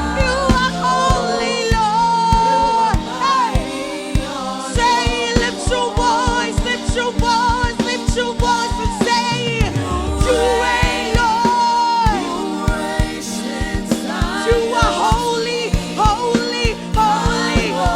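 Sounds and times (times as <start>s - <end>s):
band playing steady beat: 0.0s - 17.9s
gospel singing: 0.0s - 17.9s.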